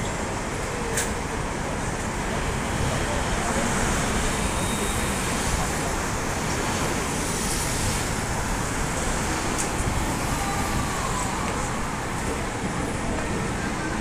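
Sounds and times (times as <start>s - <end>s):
cars passing on busy street: 0.0s - 14.0s.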